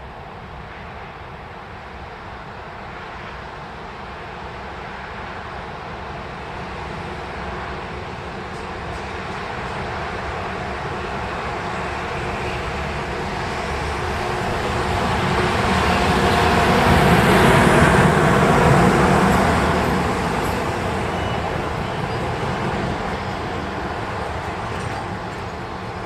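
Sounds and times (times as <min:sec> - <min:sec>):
train passing by: 0:00.0 - 0:26.0.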